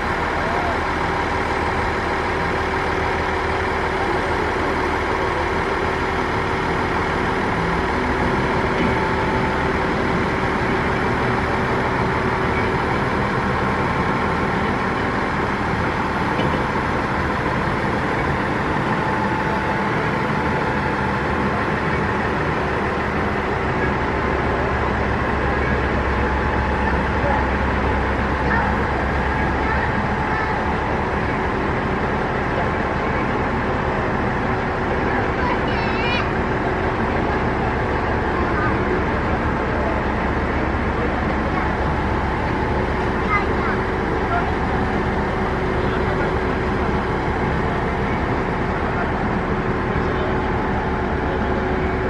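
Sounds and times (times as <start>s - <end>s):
diesel railcar engine idling: 0.0s - 52.0s.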